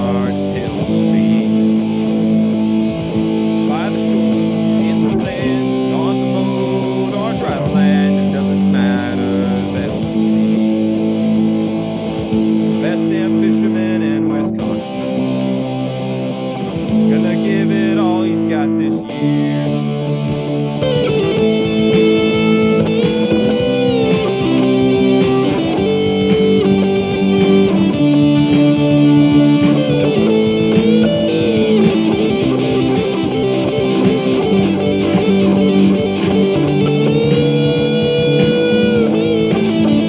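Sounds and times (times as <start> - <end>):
electric guitar music over beat: 0.0 - 40.0.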